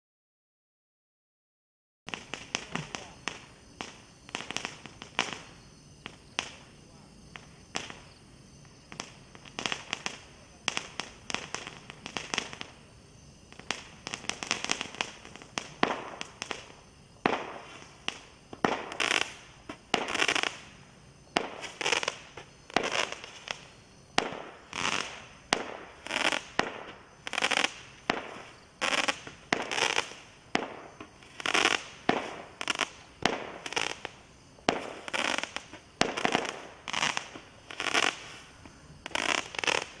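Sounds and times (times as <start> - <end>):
firework shots popping and hissing: 2.1 - 40.0.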